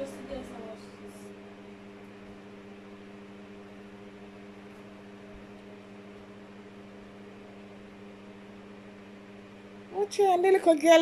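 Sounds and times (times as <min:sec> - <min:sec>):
electric fan running: 0:00.0 - 0:11.0.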